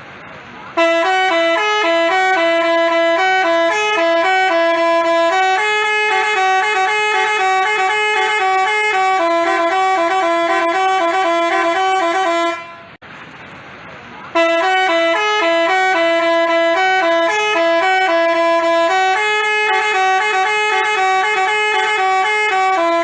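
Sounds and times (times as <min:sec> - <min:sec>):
multi-tone bus horn tune: 0:00.7 - 0:13.0, 0:14.3 - 0:23.0.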